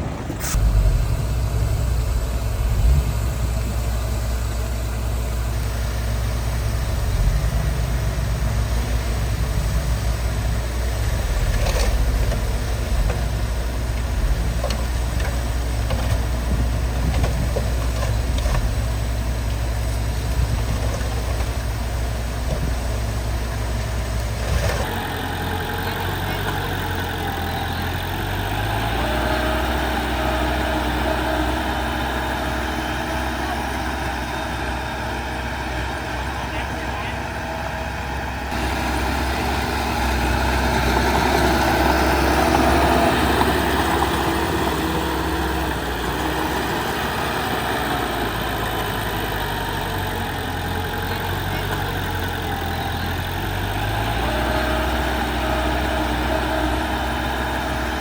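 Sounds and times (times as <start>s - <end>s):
different engine running: 0.0s - 58.0s
heavy machinery engine running: 0.0s - 58.0s.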